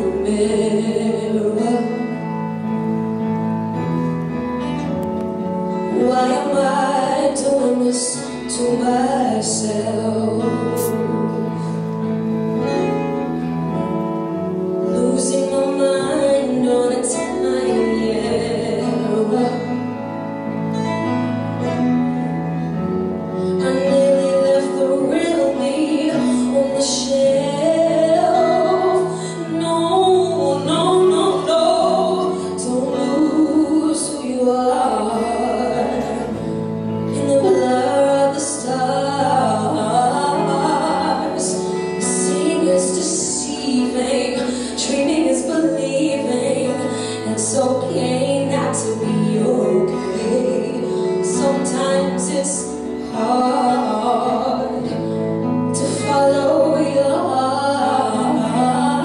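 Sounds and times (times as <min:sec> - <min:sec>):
woman singing song: 0:00.0 - 0:02.8, 0:05.4 - 0:12.9, 0:14.2 - 0:20.8, 0:23.2 - 0:59.0.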